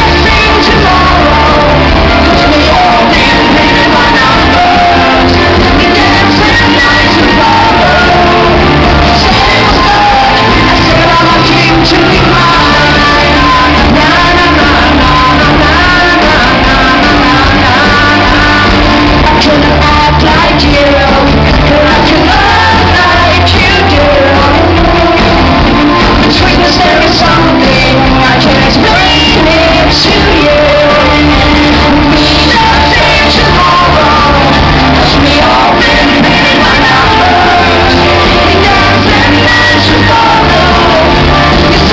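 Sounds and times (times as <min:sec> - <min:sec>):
live rock band playing: 0:00.0 - 0:41.9
woman singing lead: 0:00.0 - 0:41.9.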